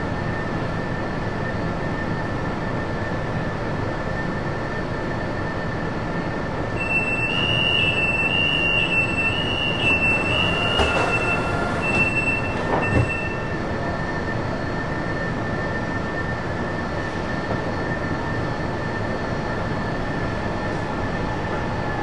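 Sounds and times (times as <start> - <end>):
train running noise: 0.0 - 22.0.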